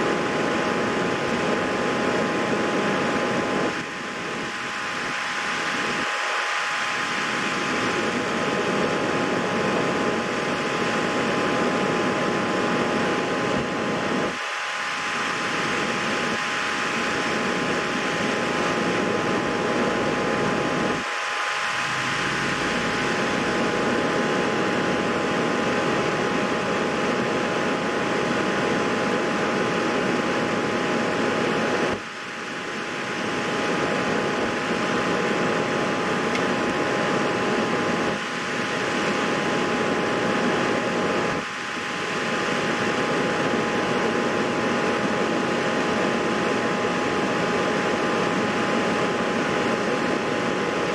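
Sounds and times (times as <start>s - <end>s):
fan whirring with faint whine: 0.0s - 50.9s.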